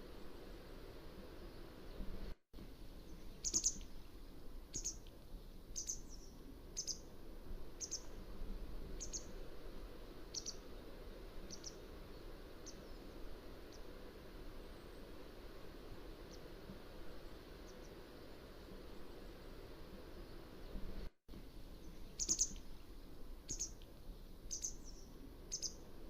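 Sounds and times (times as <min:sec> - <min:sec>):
faint background hiss: 0:00.0 - 0:26.0.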